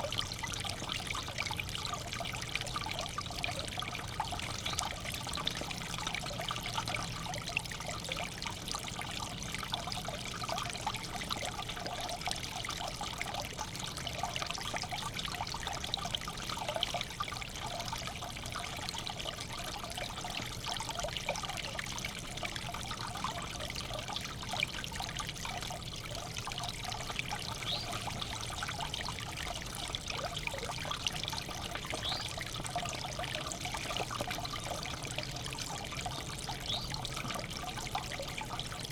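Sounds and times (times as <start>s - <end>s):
water trickling in a bird bath: 0.0s - 38.9s.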